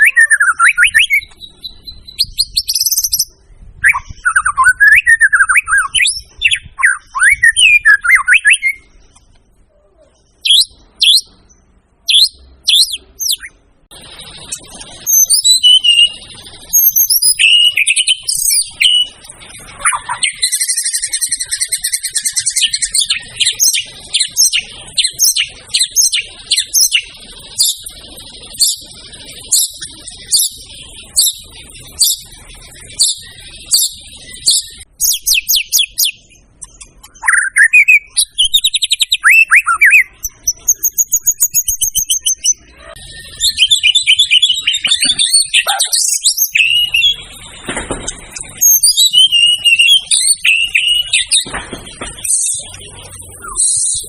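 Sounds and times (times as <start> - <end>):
songbird singing whistles and trills: 0.0 - 9.3, 10.1 - 54.0.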